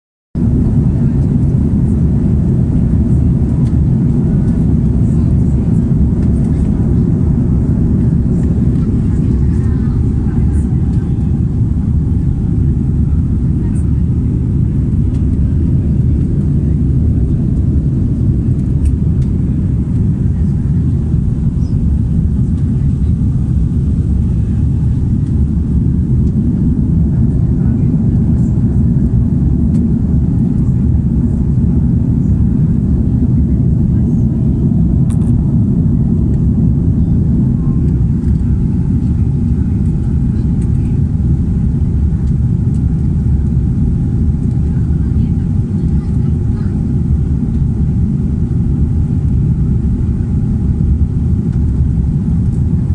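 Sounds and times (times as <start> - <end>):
low rumble of jet engines: 0.4 - 52.9.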